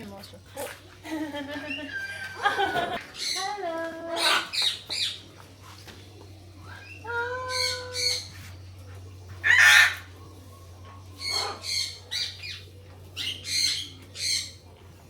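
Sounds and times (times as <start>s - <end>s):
birds squawking: 1.6s - 14.8s.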